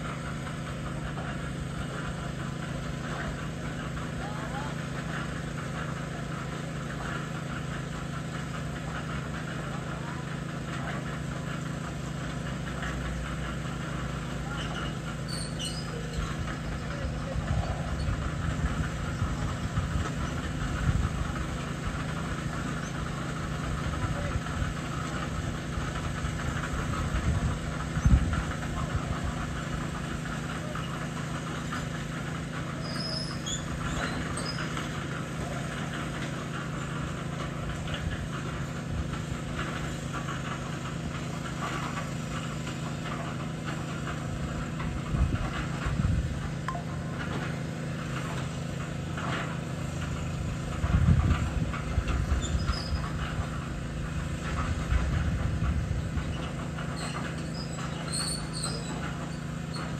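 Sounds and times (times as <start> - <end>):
concrete mixer droning: 0.0 - 59.9.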